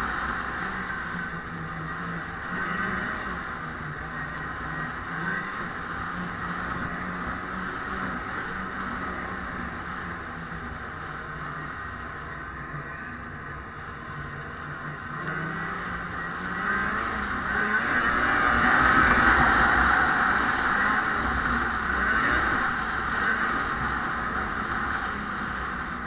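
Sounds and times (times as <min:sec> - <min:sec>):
two-stroke snowmobile engine: 0:00.0 - 0:26.0.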